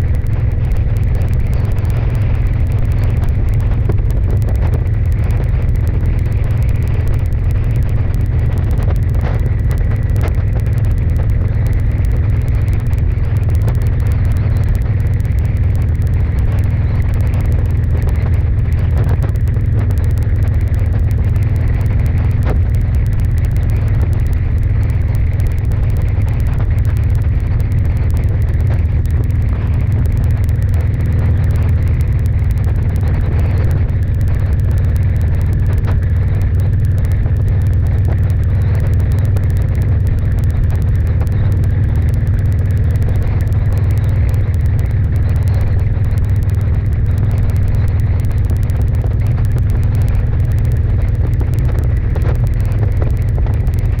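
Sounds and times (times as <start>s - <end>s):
road and vehicle hum: 0.0s - 54.0s
wind buffeting microphone: 0.0s - 54.0s.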